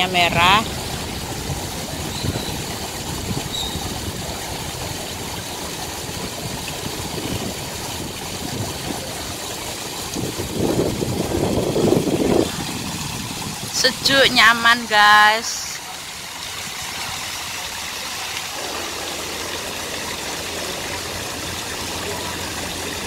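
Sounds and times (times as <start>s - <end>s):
water trickling into pond: 0.0s - 23.0s.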